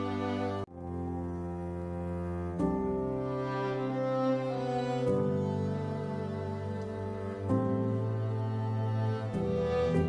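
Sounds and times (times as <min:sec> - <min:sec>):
slow music with held notes: 0:00.0 - 0:10.0.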